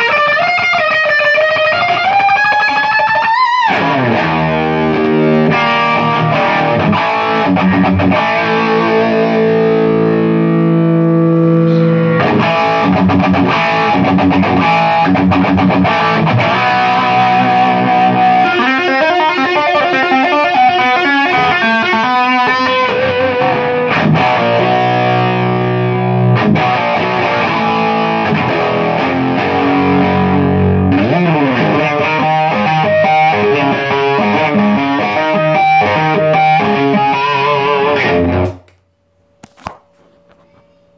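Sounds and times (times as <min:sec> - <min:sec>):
distorted electric guitar: 0:00.0 - 0:38.8.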